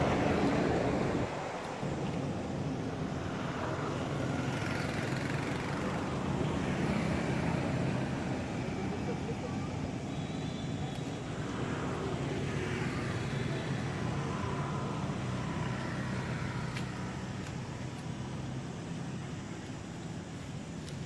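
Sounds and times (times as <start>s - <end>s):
vehicle passing: 0.0s - 19.2s
low rumble of road traffic: 0.0s - 21.0s.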